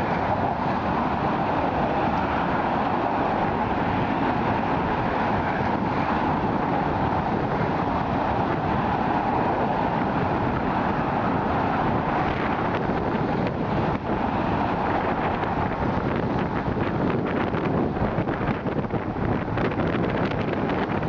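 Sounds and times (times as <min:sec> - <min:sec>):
road traffic drone: 0:00.0 - 0:21.0
wind buffeting microphone: 0:00.0 - 0:21.0.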